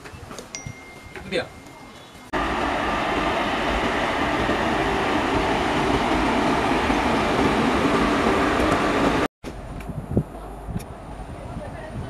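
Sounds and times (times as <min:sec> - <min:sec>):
train wheels rolling on rail: 0:00.0 - 0:09.9.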